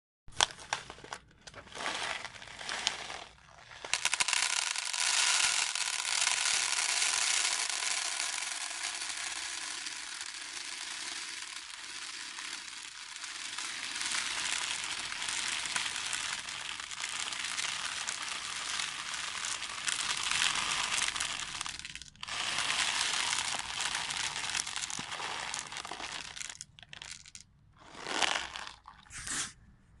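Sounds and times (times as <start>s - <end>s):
beans rattling: 0.4s - 29.2s.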